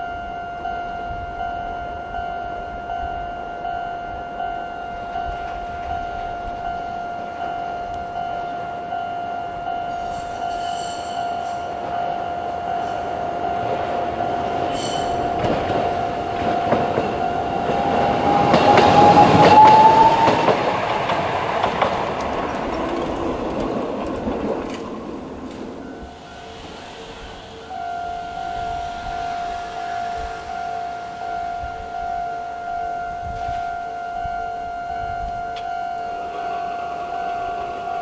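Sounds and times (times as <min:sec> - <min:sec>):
level crossing alarm: 0:00.0 - 0:21.2, 0:25.4 - 0:38.0
tram running noise: 0:00.0 - 0:38.0.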